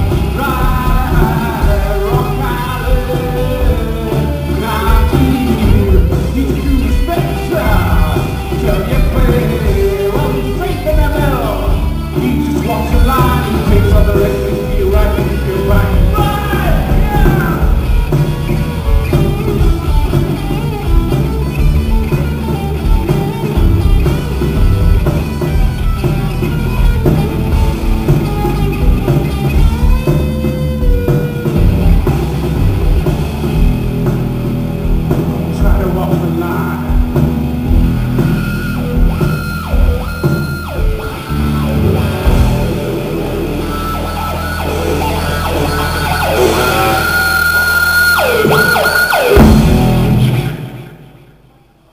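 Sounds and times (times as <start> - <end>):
electric guitar notes sliding down: 0.0 - 51.3
rock band playing live: 0.0 - 51.9.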